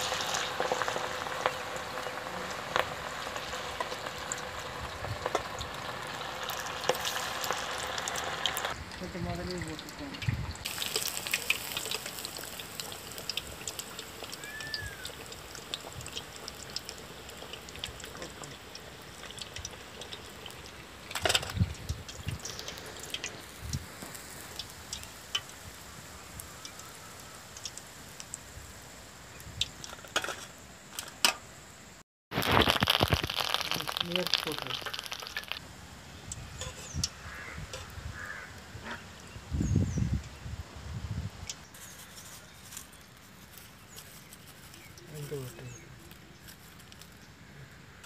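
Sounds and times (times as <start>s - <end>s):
oil sizzling with fish frying: 0.0s - 39.6s, 41.5s - 48.0s.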